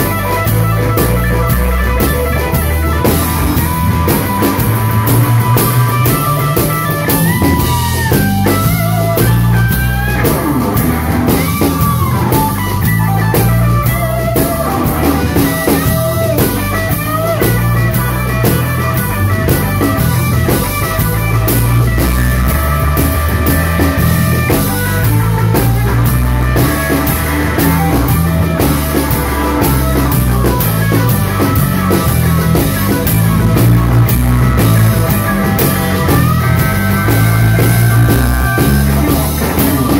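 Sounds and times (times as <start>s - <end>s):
drum kit with cymbals: 0.0s - 39.9s
electric guitar bent notes: 0.0s - 39.9s.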